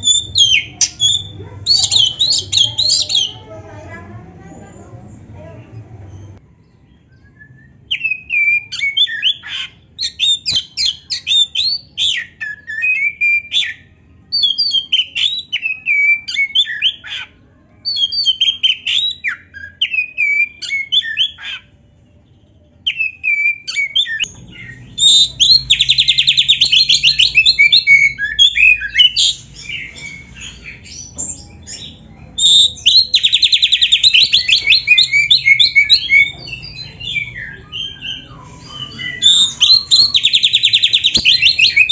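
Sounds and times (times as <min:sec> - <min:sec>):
bird singing whistled phrases: 0:00.0 - 0:03.4, 0:07.1 - 0:21.6, 0:22.8 - 0:41.9.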